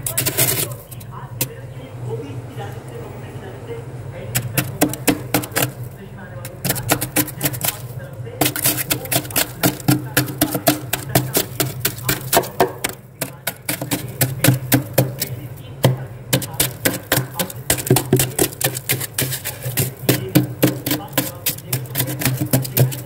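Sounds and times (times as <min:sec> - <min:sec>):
knife scraping freezer frost: 0:00.0 - 0:01.1, 0:04.3 - 0:23.0.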